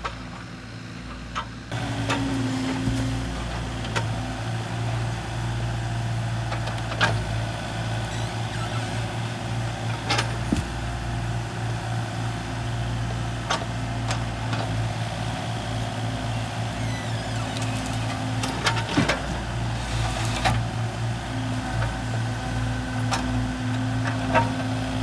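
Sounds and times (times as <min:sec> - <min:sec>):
diesel engine running: 0:00.2 - 0:25.0.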